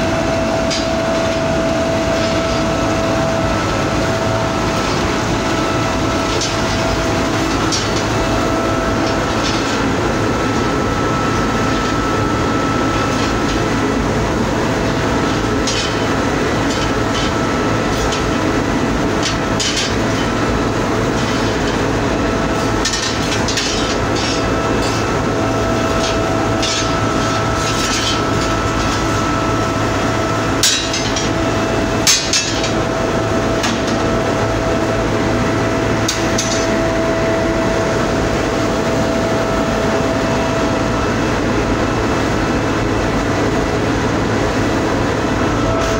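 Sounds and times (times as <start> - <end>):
machinery and furnace drone: 0.0 - 45.9
steady high hum: 0.0 - 45.9.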